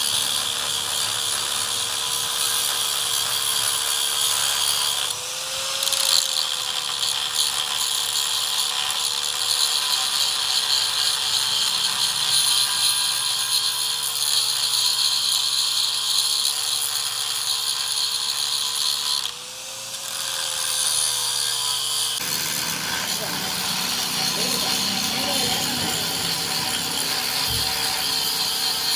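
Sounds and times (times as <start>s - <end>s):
power tool grinding metal: 0.0s - 28.9s.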